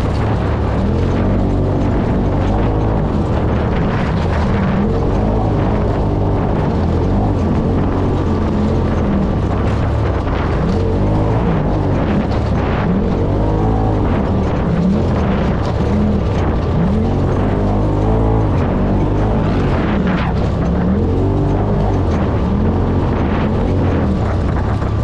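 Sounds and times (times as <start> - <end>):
utility vehicle engine revving: 0.0 - 25.0.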